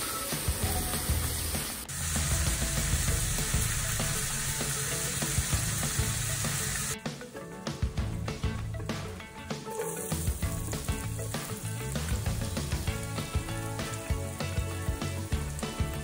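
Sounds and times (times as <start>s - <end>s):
oil crackling: 0.0s - 7.0s, 9.7s - 16.0s
oil sizzling in pot: 0.0s - 7.0s, 8.4s - 16.0s.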